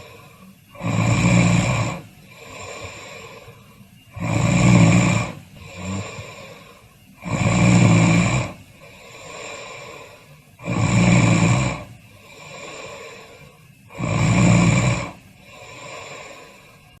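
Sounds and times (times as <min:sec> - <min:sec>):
loud snores: 0:00.0 - 0:17.0
quiet breathing: 0:00.0 - 0:17.0.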